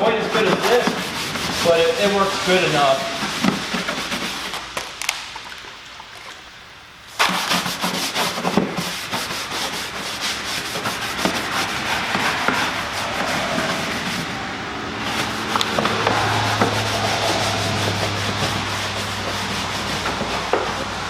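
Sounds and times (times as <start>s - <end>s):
bristle brush scrubbing plastic: 0.0s - 4.9s, 7.1s - 21.0s.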